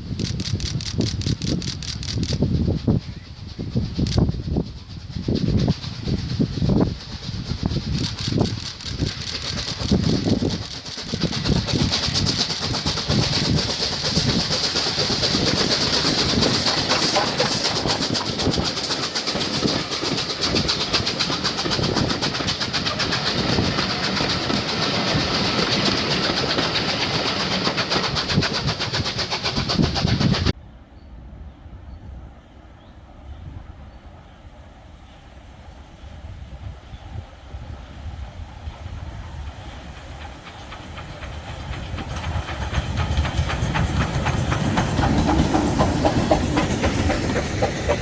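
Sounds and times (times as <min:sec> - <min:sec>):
train wheels clattering on track: 0:00.0 - 0:30.6, 0:37.6 - 0:48.0
train rushing past: 0:00.0 - 0:48.0.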